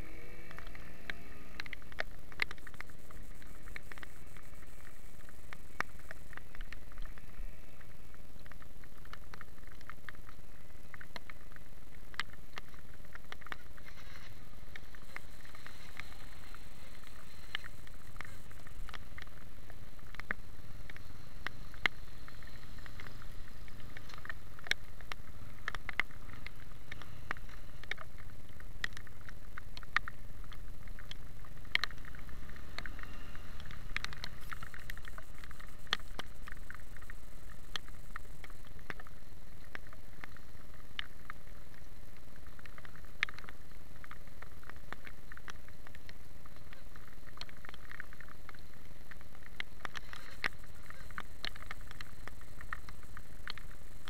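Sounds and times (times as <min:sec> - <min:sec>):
motorcycle rumble on wet road: 0:00.0 - 0:53.7
raindrops ticking on camera: 0:00.0 - 0:54.0.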